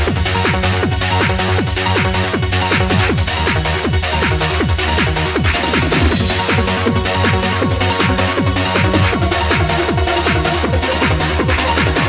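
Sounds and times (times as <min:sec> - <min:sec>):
fast electronic dance music: 0:00.0 - 0:12.0
pounding kick drum: 0:00.0 - 0:12.0.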